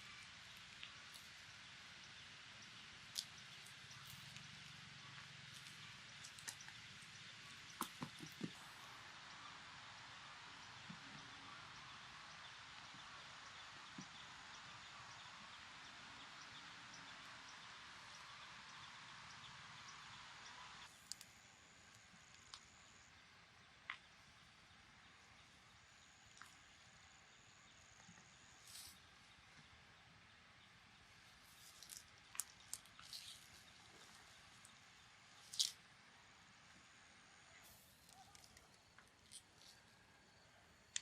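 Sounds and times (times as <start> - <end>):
outdoor background hiss: 0.0 - 41.0.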